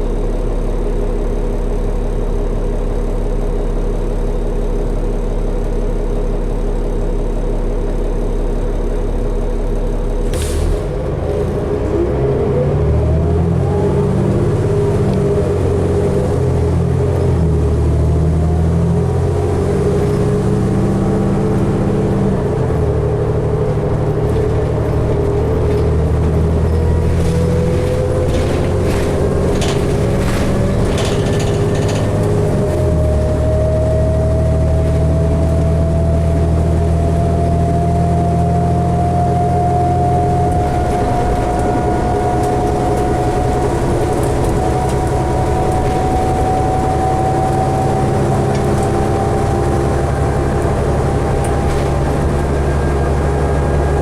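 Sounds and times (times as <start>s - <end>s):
bus engine running: 0.0s - 54.0s
transmission whine: 0.0s - 54.0s.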